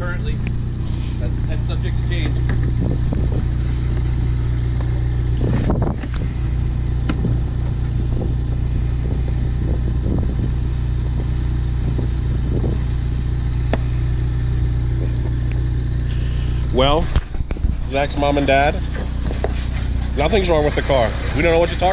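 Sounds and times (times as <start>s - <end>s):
car engine droning: 0.0s - 21.9s.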